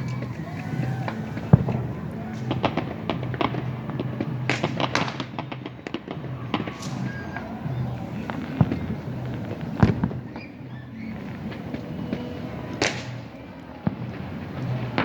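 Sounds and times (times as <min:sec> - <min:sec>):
firecrackers popping: 0:00.0 - 0:15.0
firework booms: 0:00.0 - 0:15.0.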